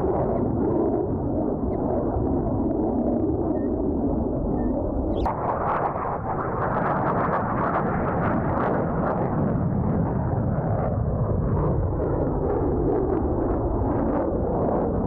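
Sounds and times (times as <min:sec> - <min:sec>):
jet engines roaring overhead: 0:00.0 - 0:15.0.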